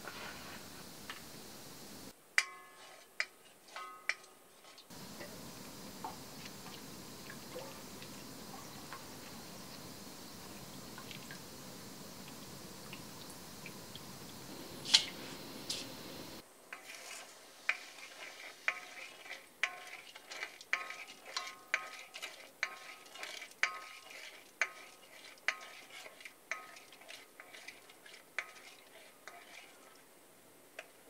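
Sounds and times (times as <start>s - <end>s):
milk pouring hiss: 0.0s - 2.1s, 4.9s - 30.1s.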